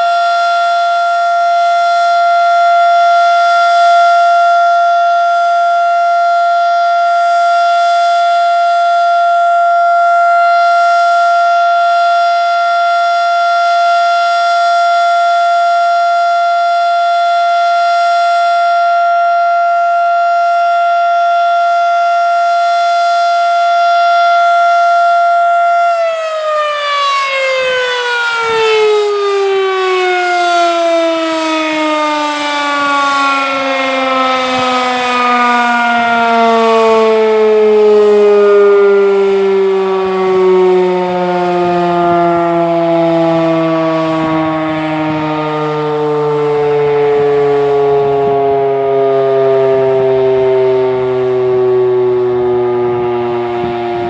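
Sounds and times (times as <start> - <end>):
siren winding down: 0.0 - 54.0
tornado siren alert tone: 0.0 - 54.0.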